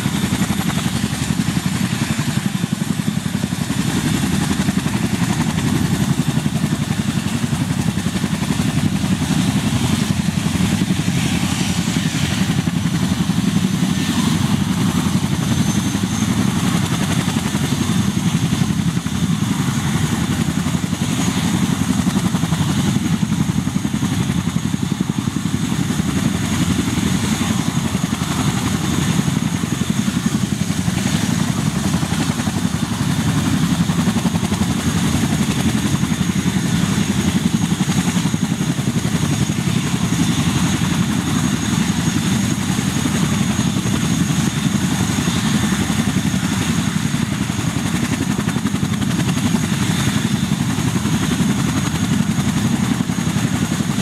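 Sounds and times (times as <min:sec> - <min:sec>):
helicopter engines running: 0:00.0 - 0:54.0.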